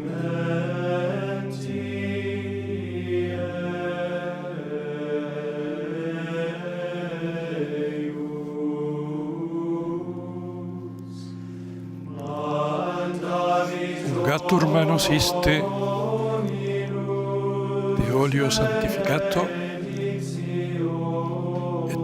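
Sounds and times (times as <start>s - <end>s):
choir singing plainchant: 0.0s - 11.3s, 12.1s - 22.0s.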